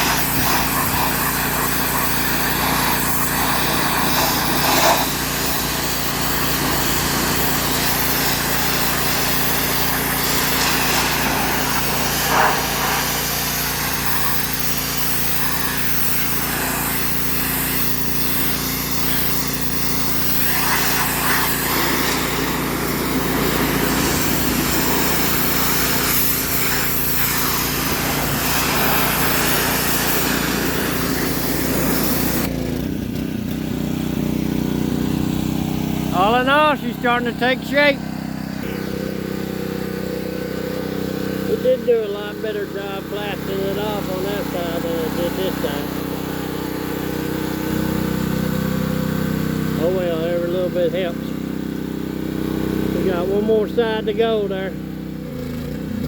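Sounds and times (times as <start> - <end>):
blast nozzle hissing: 0.0 - 54.0
engine running: 0.0 - 56.0.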